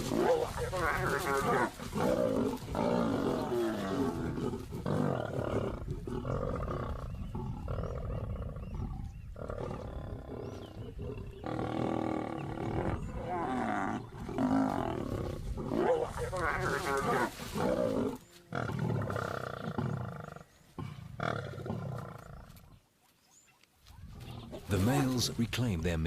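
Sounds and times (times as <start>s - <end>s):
lions growling: 0.0s - 22.8s.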